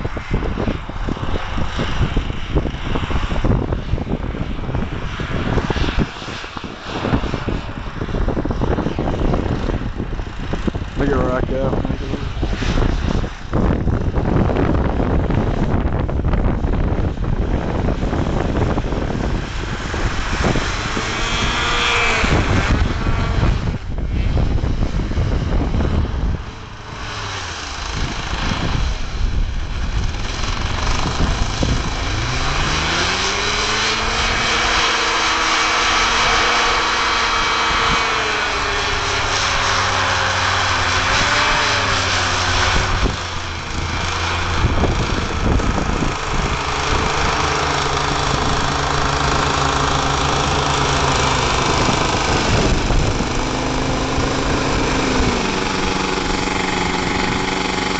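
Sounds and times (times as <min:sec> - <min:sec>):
fan and propeller air rush: 0:00.0 - 0:57.9
hovercraft engine: 0:00.0 - 0:57.9.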